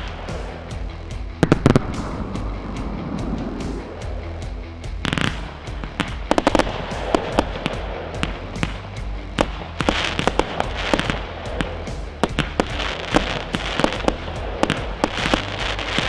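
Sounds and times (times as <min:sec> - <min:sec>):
fireworks bangs with crackling: 0:01.4 - 0:04.1, 0:05.0 - 0:16.0.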